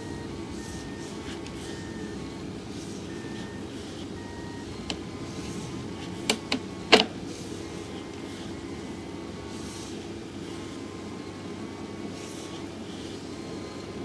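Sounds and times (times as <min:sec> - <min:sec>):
inspection camera equipment humming: 0:00.0 - 0:14.0.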